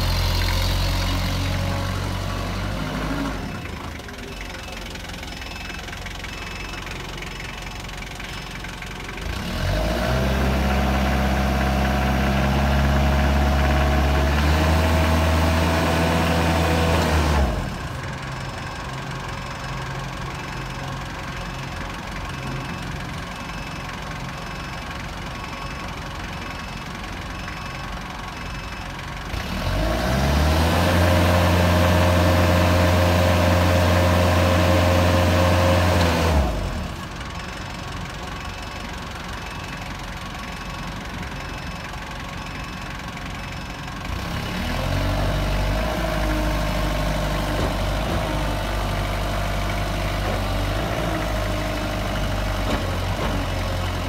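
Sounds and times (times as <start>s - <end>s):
forklift diesel engine revving: 0.0s - 21.7s, 27.6s - 54.0s.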